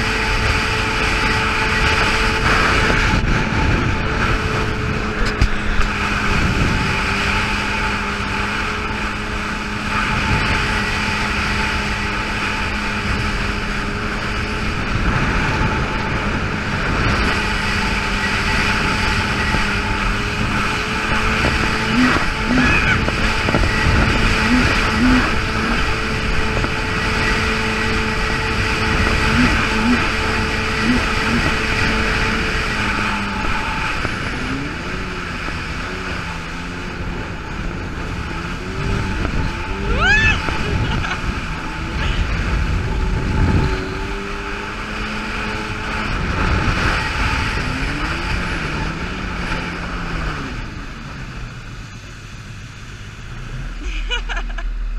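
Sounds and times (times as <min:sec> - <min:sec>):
jet ski engine running: 0:00.0 - 0:54.9
rush of wind and water: 0:00.0 - 0:54.9.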